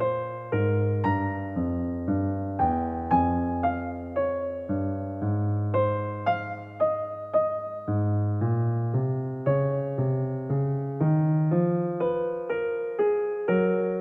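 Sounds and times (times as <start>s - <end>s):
gentle piano-like keyboard music: 0.0s - 14.0s.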